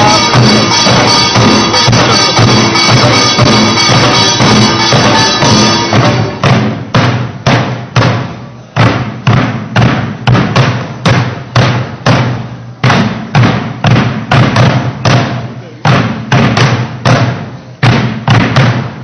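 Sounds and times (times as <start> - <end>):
barrel drums beating: 0.0 - 19.0.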